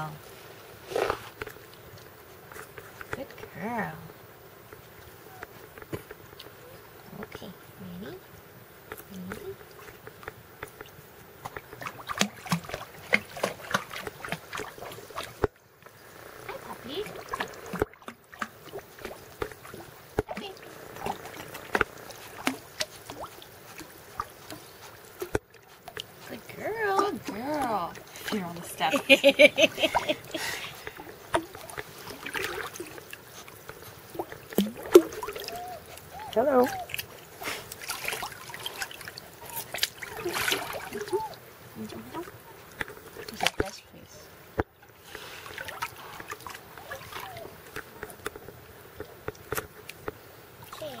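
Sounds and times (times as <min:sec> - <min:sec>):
water splashing and sloshing: 0:00.0 - 0:51.0.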